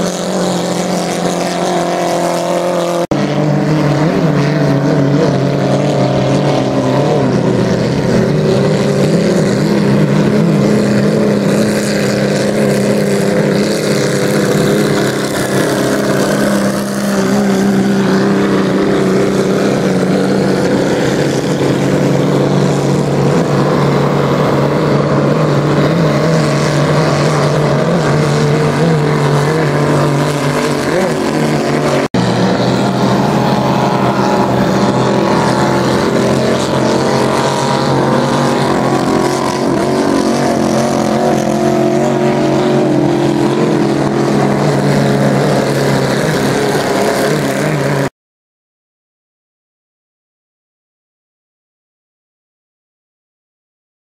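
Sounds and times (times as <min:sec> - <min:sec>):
race boat engines droning: 0:00.0 - 0:48.1.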